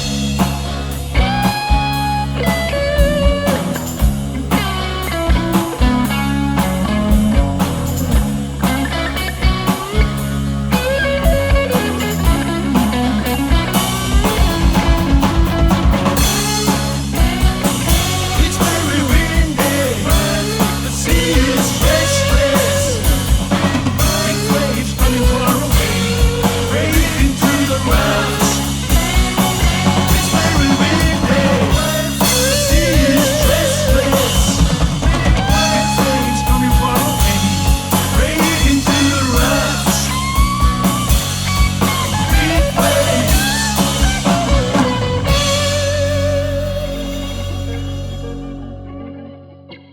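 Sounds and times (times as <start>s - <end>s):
drum kit beat: 0.0s - 48.4s
bass guitar: 0.0s - 49.9s
electric guitar: 0.0s - 49.9s.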